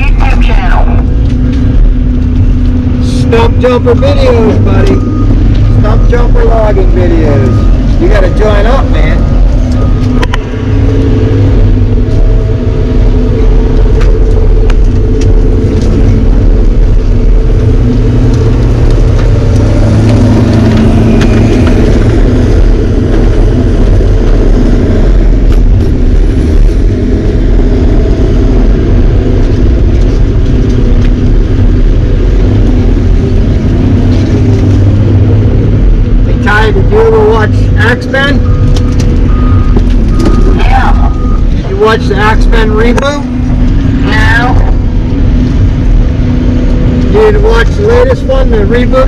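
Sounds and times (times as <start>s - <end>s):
heavy diesel engine running: 0.0s - 49.0s.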